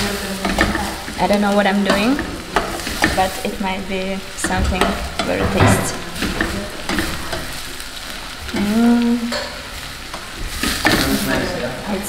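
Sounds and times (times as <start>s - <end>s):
spoon stirring in saucepan: 0.0s - 11.3s
onions sizzling in butter: 0.0s - 12.0s.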